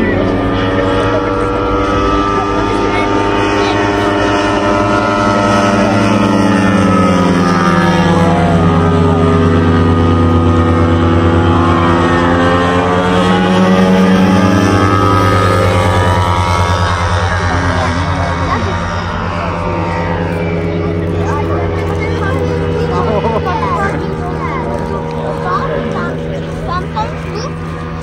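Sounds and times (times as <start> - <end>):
model airplane engine droning: 0.0 - 28.0.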